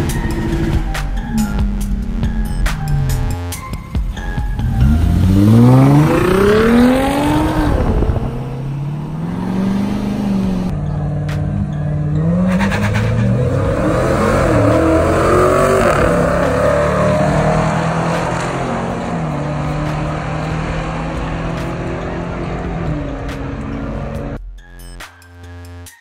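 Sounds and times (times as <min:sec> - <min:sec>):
cars accelerating at full throttle: 0:00.0 - 0:03.5, 0:04.1 - 0:24.4.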